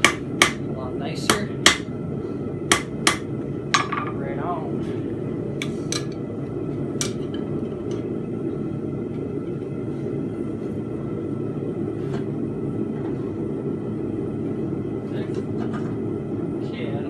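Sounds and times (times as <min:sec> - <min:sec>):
forge roaring: 0:00.0 - 0:17.0.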